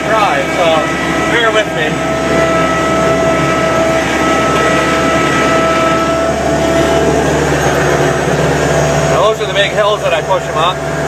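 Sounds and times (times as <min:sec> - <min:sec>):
skid steer engine running: 0:00.0 - 0:11.0
steady whine: 0:00.0 - 0:11.0.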